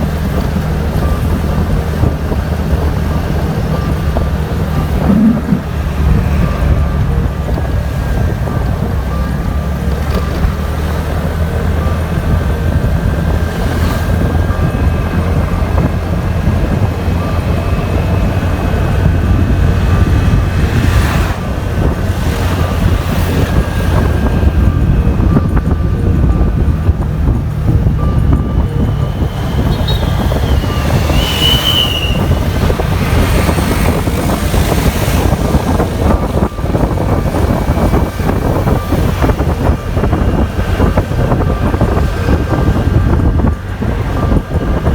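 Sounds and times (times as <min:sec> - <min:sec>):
vehicle road rumble: 0:00.0 - 0:44.9
wind buffeting microphone: 0:00.0 - 0:44.9.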